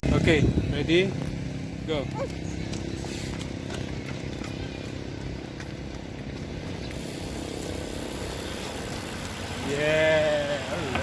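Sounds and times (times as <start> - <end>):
bicycles rolling over trail: 0.0 - 11.0.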